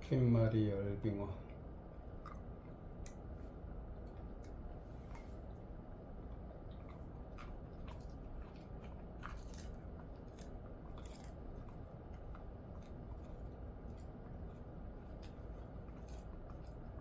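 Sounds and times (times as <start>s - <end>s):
steady low hum: 0.0s - 17.0s
dog chewing crunchy treat: 0.2s - 17.0s.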